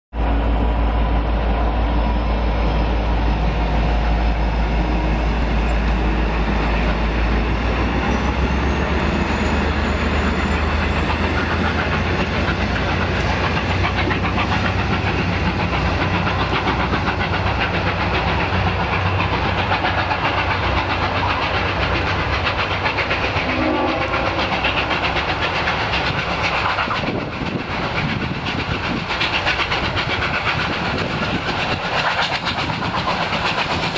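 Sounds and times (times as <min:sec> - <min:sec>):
heavy low train rumble: 0:00.1 - 0:33.9.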